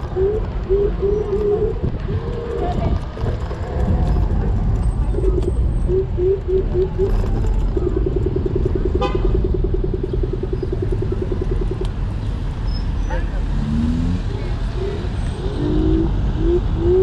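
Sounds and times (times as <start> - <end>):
street traffic rumble: 0.0 - 17.0
wind: 0.0 - 17.0.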